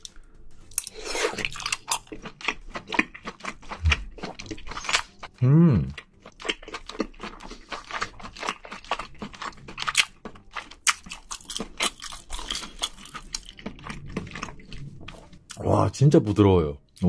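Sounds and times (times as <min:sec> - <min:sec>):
chewing with mouth clicks: 0:00.0 - 0:15.6.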